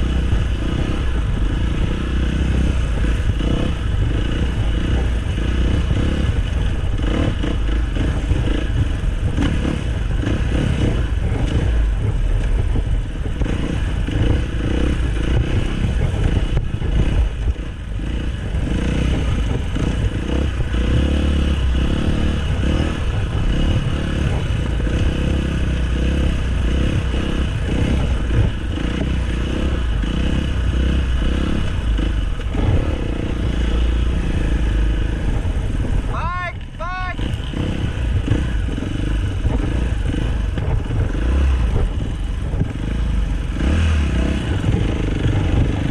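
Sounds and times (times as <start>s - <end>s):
dirt bike engine: 0.0s - 45.9s.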